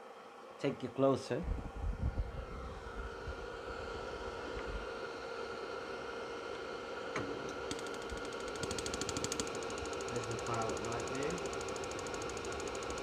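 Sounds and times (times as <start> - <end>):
heater fan whining: 0.0 - 13.0.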